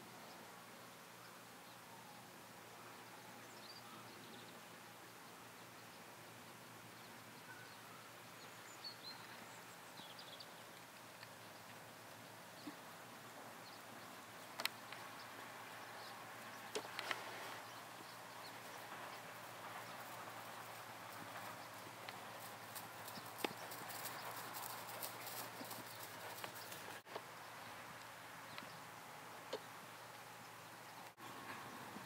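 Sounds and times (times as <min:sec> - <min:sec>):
faint open-field ambience: 0:00.0 - 0:32.0.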